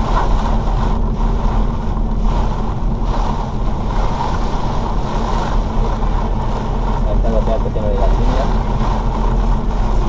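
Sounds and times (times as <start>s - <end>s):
rain and spray hitting car: 0.0s - 10.0s
tyres on flooded road: 0.0s - 10.0s.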